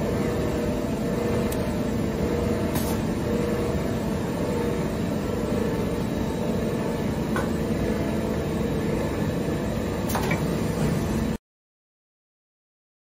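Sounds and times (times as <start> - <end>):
machine mechanical hum: 0.0 - 11.4.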